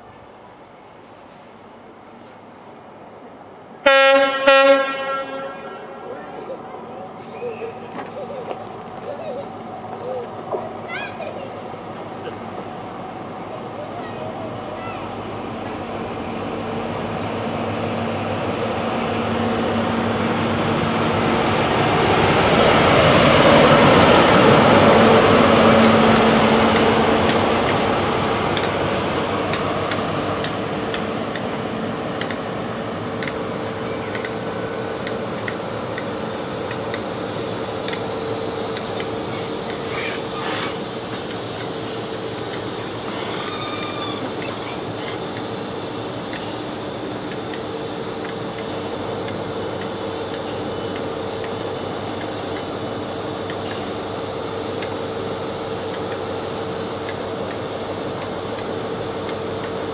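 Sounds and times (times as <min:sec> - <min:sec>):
diesel train engine: 0:00.0 - 0:59.9
rail-side drone with hum: 0:00.0 - 0:59.9.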